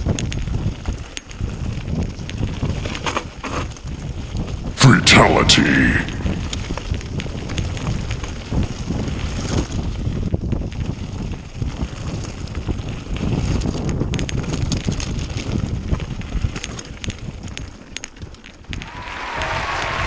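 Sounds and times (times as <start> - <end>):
bike clicking and rattling: 0.0 - 4.8, 6.4 - 20.0
wind buffeting microphone: 0.0 - 4.8, 6.1 - 20.0.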